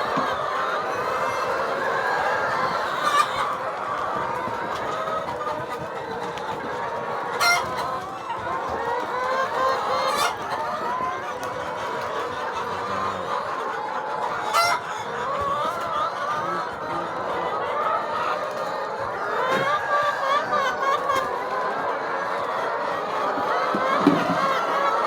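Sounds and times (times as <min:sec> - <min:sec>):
chickens clucking: 0:00.0 - 0:25.0
sharp chicken calls: 0:00.0 - 0:25.0.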